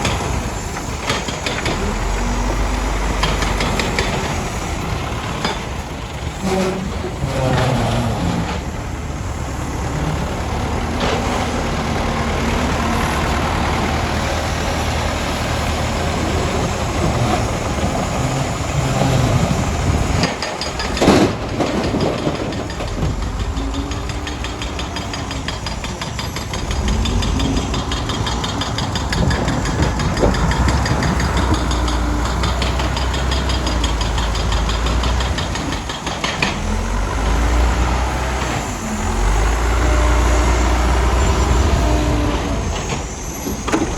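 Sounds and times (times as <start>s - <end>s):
diesel earthmoving machinery running: 0.0s - 43.9s.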